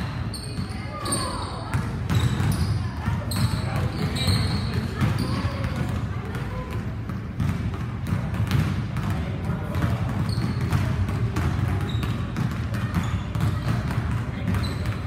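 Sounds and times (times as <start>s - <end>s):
basketballs bouncing on wooden floor: 0.0s - 15.0s.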